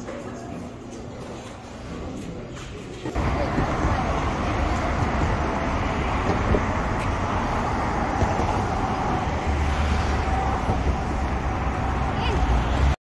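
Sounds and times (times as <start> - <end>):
city street traffic: 2.1 - 13.0.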